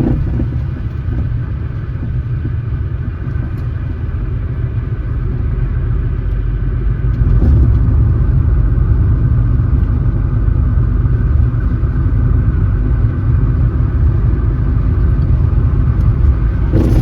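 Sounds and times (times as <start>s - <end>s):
car driving on road: 0.0s - 17.0s.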